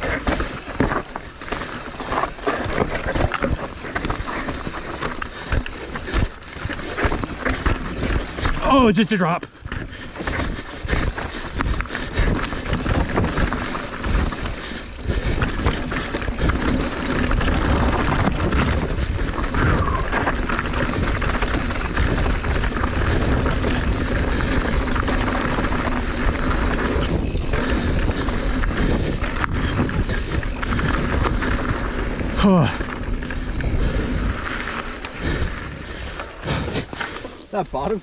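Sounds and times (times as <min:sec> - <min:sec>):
bike rattling over bumps: 0:00.0 - 0:38.0
bike tyres on dirt and rock: 0:00.0 - 0:38.0.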